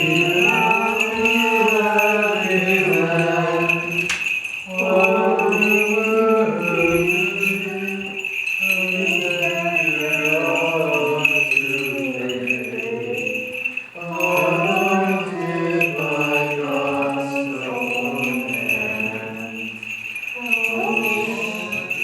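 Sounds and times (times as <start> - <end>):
congregation chanting in unison: 0.0 - 22.0
small bells jingling: 0.0 - 22.0.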